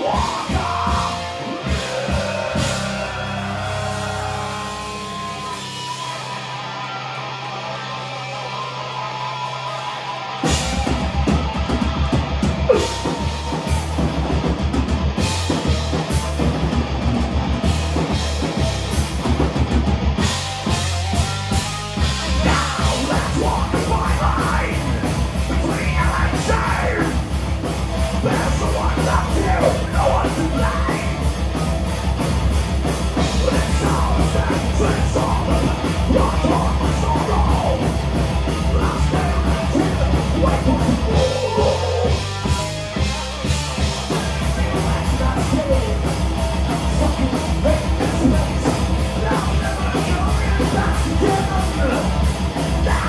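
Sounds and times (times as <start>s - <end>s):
heavy metal band playing live: 0.0s - 53.0s.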